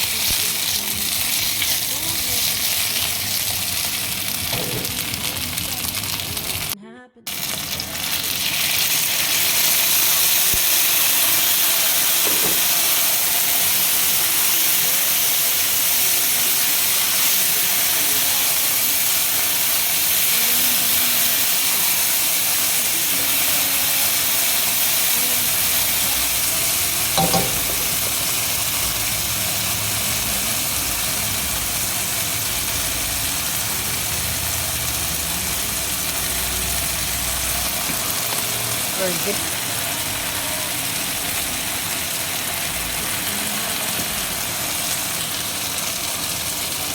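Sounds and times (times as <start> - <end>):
eggplant sizzling in oil: 0.0 - 46.9.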